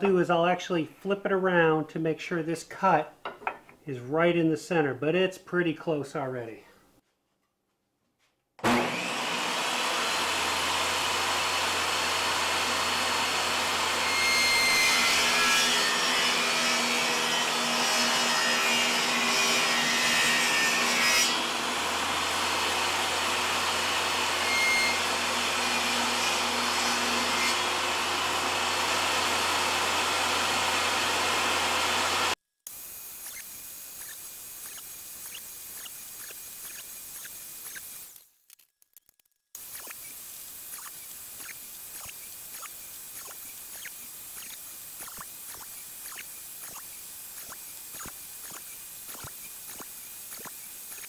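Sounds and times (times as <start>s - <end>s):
table saw cutting wood: 8.6s - 38.2s, 39.6s - 51.0s.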